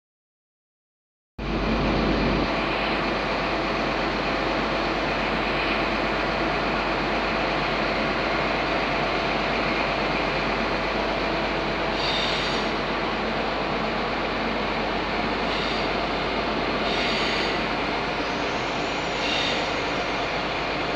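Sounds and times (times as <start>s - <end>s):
train wheels rumbling on rail: 1.4s - 20.9s.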